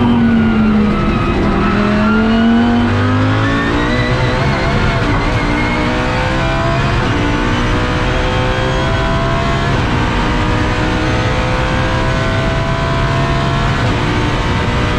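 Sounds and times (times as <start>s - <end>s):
race car engine at full throttle: 0.0s - 14.9s.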